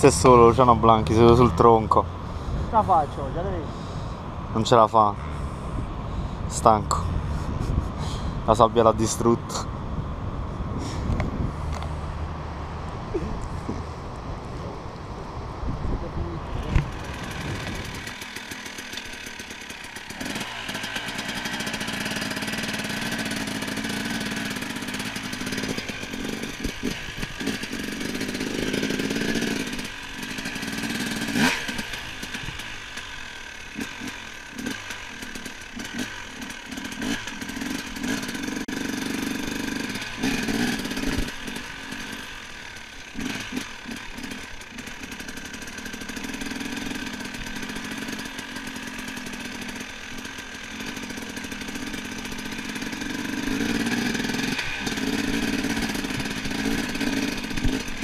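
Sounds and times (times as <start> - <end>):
dirt bike engine revving: 0.0 - 15.2, 16.0 - 58.0.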